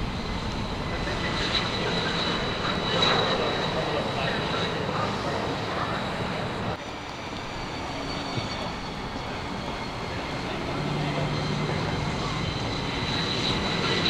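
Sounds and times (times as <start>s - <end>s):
jet engine rush with high whine: 0.0s - 14.0s.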